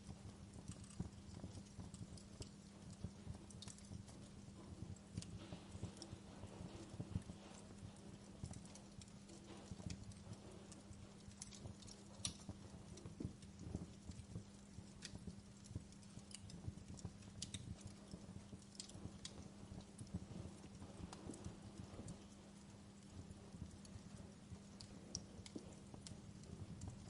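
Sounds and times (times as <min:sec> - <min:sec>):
faint low hum: 0:00.0 - 0:27.0
fire crackling and popping: 0:00.0 - 0:27.0.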